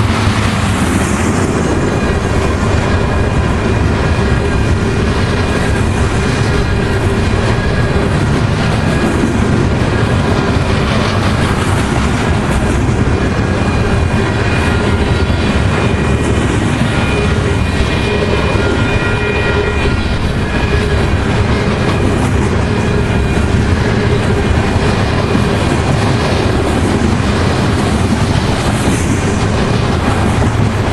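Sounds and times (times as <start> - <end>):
clickety-clack over rail joints: 0.0 - 30.9
train wheels rumbling on rail: 0.0 - 30.9.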